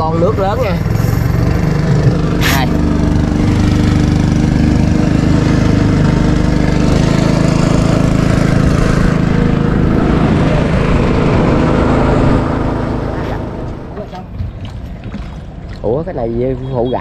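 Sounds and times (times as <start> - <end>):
small boat motor running: 0.0 - 17.0.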